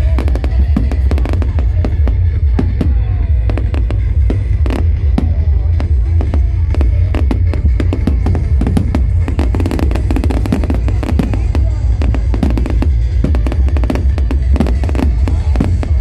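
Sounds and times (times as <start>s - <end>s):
fireworks cracking and banging: 0.0s - 16.0s
loud music with heavy bass: 0.0s - 16.0s.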